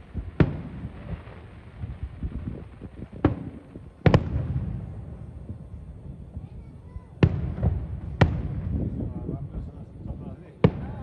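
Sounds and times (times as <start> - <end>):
fireworks bangs with rumbling echo: 0.0 - 11.0.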